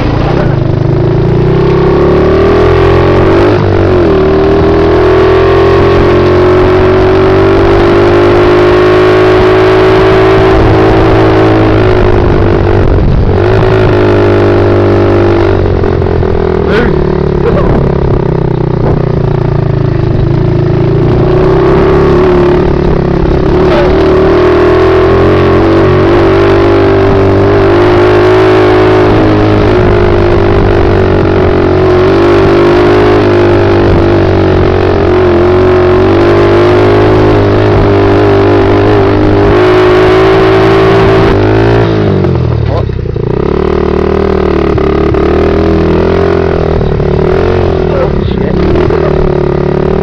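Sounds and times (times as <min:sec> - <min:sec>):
pit bike engine running: 0:00.0 - 0:50.0.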